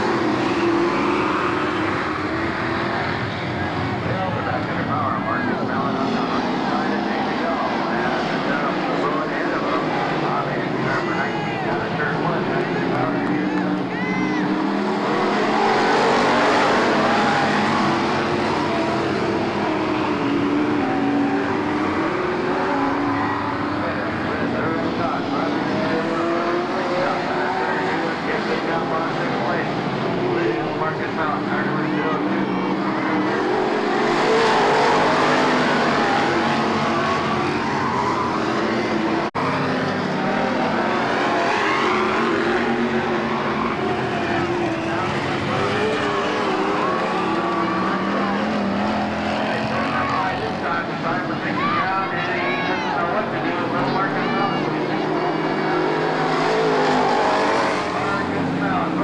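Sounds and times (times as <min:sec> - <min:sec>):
racing car engines droning: 0:00.0 - 0:59.0.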